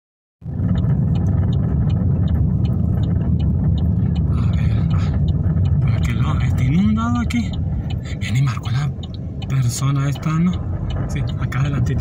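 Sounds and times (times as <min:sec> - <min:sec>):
car driving rumble: 0:00.4 - 0:12.0
light regular ticking: 0:00.5 - 0:12.0.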